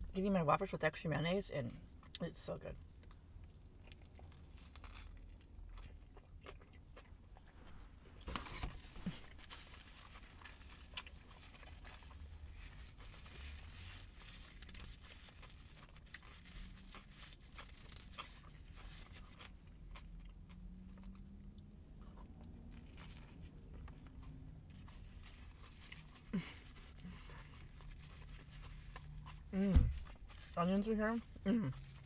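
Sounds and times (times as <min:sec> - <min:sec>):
low steady rumble: 0:00.0 - 0:32.0
chewing a sandwich: 0:02.8 - 0:32.0.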